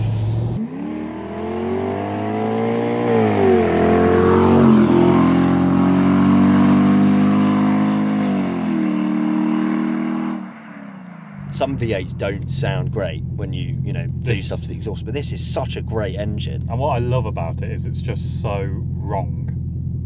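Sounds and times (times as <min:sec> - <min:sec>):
car engine accelerating hard: 0:00.0 - 0:10.6, 0:11.3 - 0:20.0.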